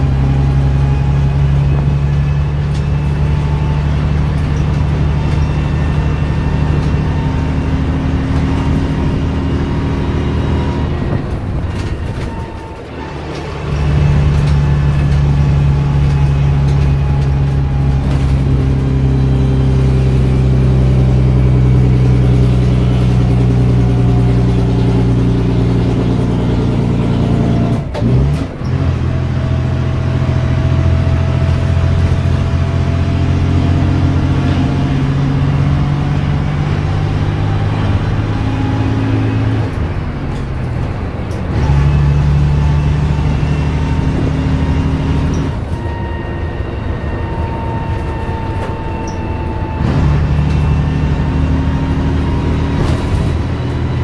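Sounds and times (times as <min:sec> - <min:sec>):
bus diesel engine under load: 0:00.0 - 0:54.0.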